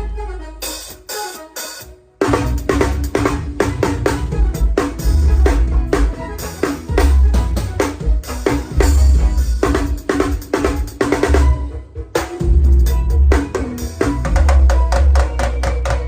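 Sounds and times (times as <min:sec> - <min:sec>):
drum kit groove: 0:00.6 - 0:16.0
deep bass notes: 0:02.2 - 0:15.4
dance song: 0:02.2 - 0:16.0.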